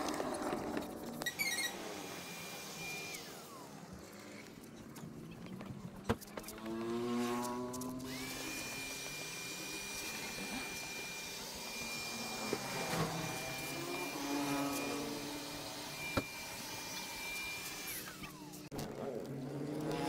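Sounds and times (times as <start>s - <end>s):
polishing machine motor whine: 0.0s - 4.7s, 6.3s - 20.0s.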